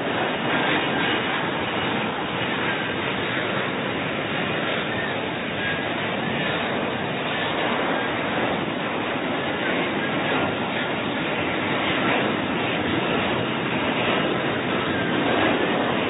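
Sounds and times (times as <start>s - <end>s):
fighter jet engine hovering: 0.0s - 16.0s.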